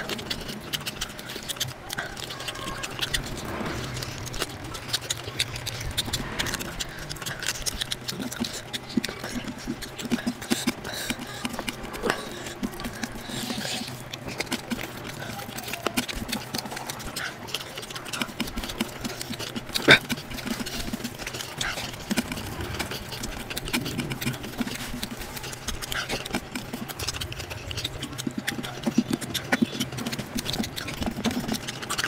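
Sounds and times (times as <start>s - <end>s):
fingers mixing rice on steel plate: 0.0s - 32.0s
person chewing and lip-smacking: 0.0s - 32.0s.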